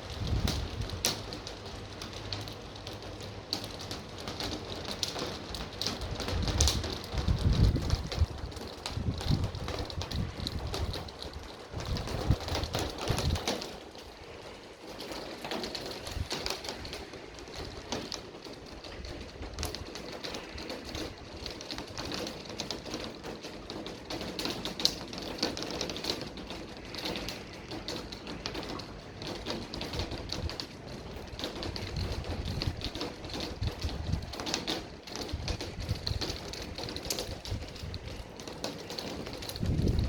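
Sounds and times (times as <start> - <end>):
rain drops tapping: 0.0 - 40.0.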